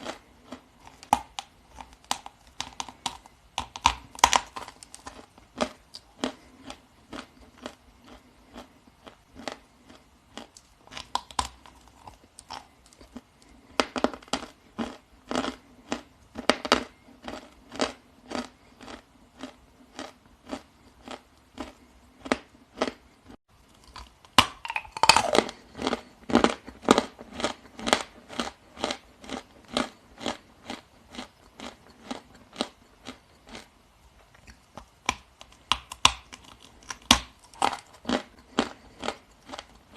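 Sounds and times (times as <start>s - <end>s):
chewing crisp crunches: 0.0s - 39.9s.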